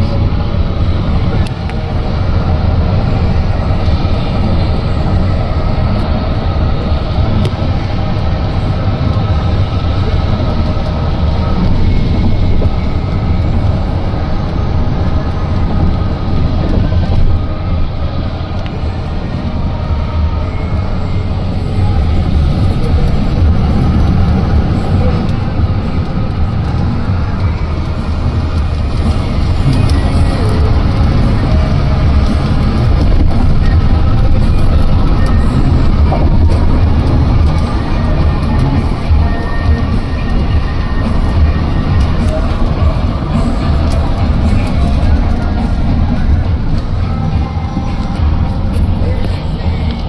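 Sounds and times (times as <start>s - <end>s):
car driving rumble inside cabin: 0.0s - 50.0s.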